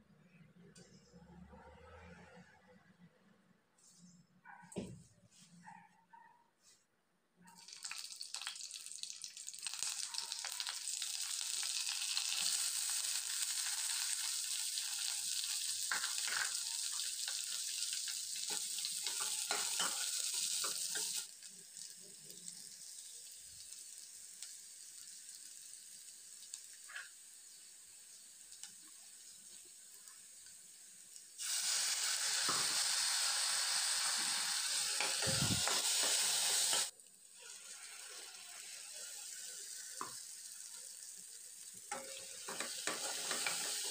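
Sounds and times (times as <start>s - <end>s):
hot oil sizzling in a pan: 7.6s - 43.9s.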